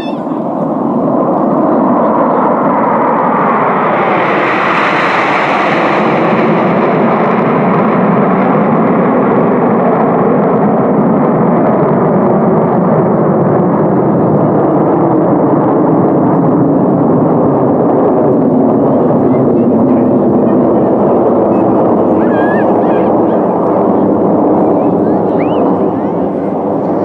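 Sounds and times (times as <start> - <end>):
jets passing overhead roaring: 0.0 - 27.0.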